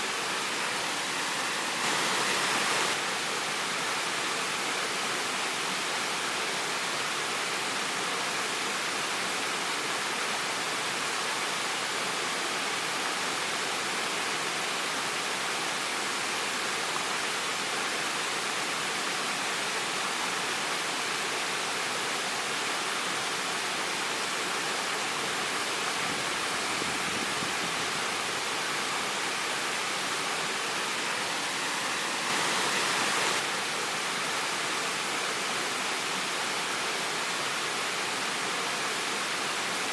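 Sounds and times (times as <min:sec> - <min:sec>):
waterfall rushing: 0:00.0 - 0:09.0, 0:16.5 - 0:39.9.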